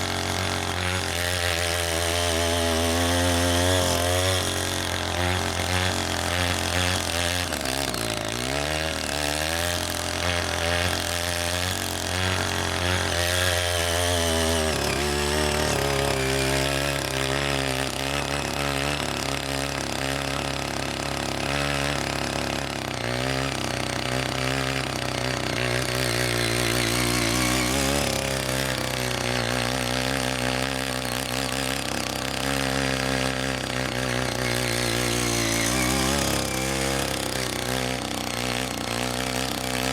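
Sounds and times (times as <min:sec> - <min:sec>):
small tiller engine under load: 0:00.0 - 0:39.9
tines churning mud and water: 0:00.0 - 0:39.9.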